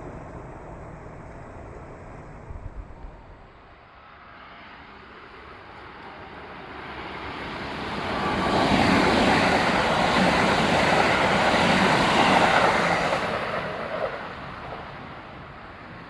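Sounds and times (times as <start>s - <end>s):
electric train passing by: 0.0s - 16.0s.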